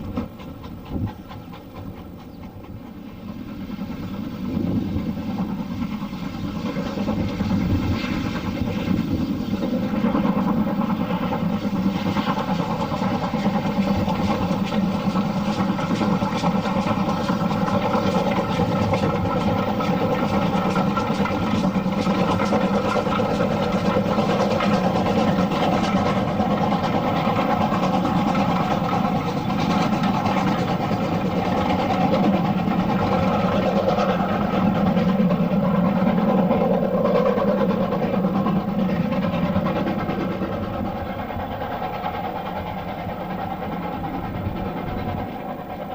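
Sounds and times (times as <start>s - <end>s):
engine droning: 0.0s - 45.9s.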